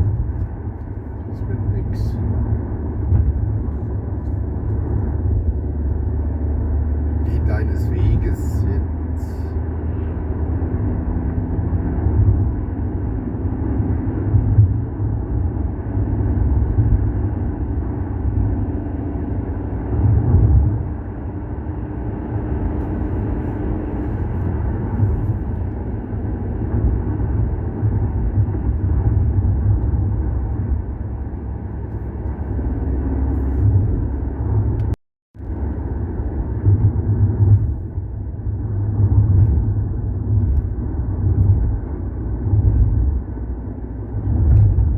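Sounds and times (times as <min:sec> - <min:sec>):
car engine rumble: 0:00.0 - 0:44.9
road noise: 0:00.0 - 0:44.9.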